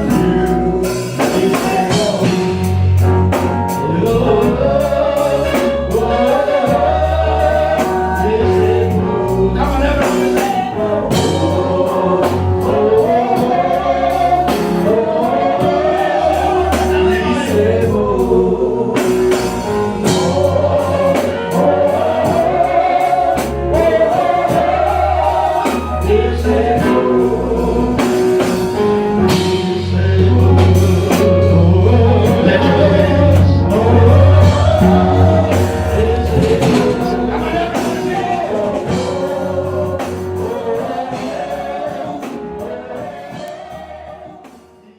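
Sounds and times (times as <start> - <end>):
choir singing gospel: 0.0 - 44.9
instrumental backing with bass: 0.0 - 44.9.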